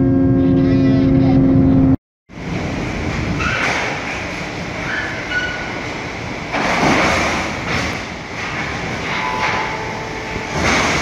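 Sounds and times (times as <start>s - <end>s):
metallic machinery noise: 0.0s - 11.0s.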